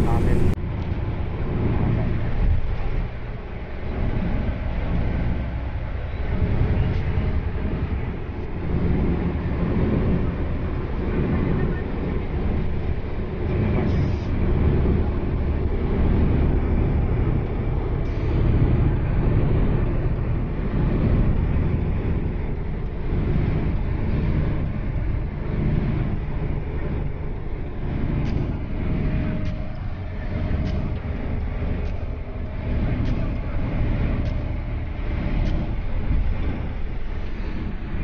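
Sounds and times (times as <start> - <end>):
vehicle road noise rumble: 0.0 - 38.0.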